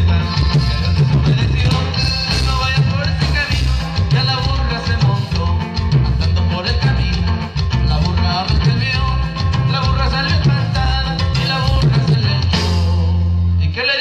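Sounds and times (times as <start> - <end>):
steady bass beat: 0.0 - 13.6
live band with guitars and drums: 0.0 - 14.0.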